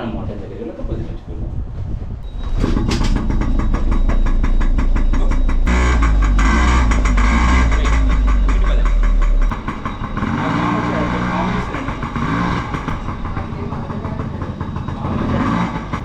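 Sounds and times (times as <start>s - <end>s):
motorcycle engine running: 2.2s - 16.0s.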